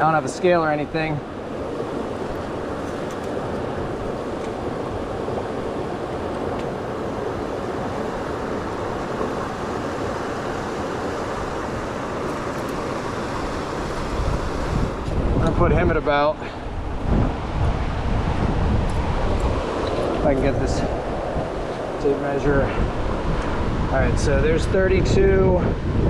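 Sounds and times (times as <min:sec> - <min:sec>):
flowing river water: 0:00.0 - 0:24.3.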